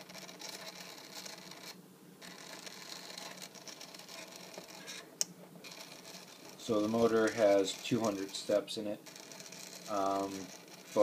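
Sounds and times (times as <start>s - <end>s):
stepper motor humming and rattling: 0.0s - 11.0s.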